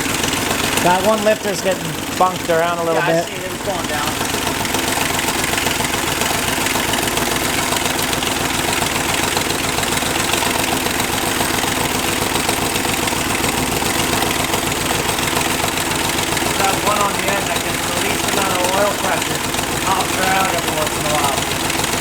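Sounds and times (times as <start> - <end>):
car engine idling roughly: 0.0 - 22.0.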